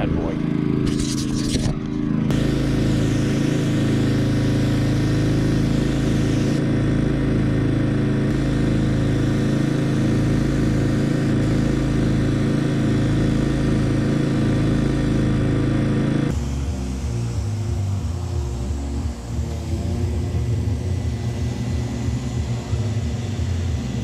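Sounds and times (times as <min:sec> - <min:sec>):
low engine sound: 0:00.0 - 0:24.0
paint sprayer motor pulsing: 0:00.0 - 0:24.0.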